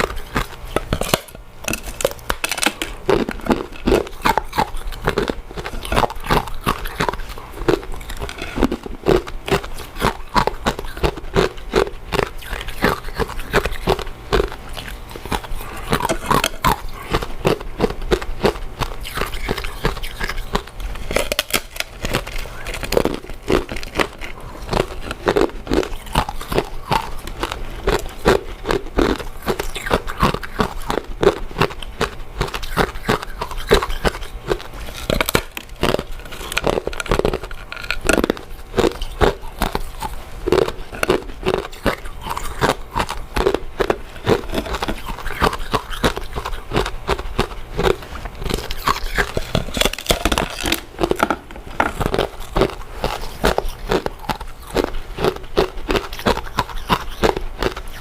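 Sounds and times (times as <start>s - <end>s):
person chewing with mouth clicks: 0.0s - 58.0s.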